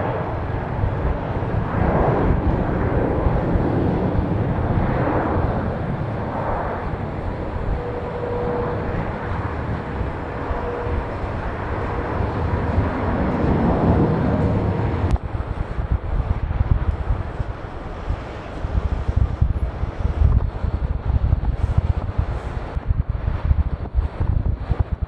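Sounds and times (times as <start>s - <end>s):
jet engines rumbling: 0.0s - 23.2s
wind gusting on microphone: 0.0s - 25.0s.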